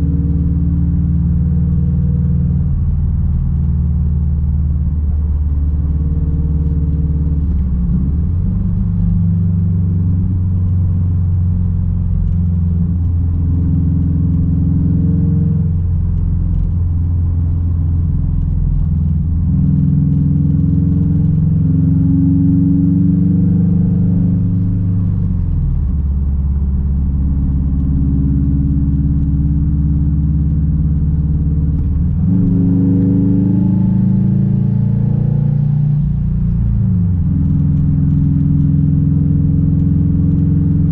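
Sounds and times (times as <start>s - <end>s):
car engine with loud exhaust: 0.0s - 40.9s.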